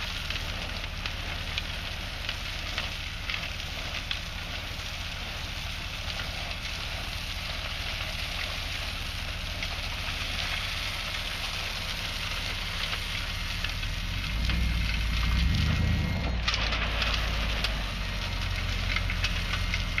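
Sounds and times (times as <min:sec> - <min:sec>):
crushed stone pouring and rattling: 0:00.0 - 0:20.0
truck engine drone: 0:00.0 - 0:20.0.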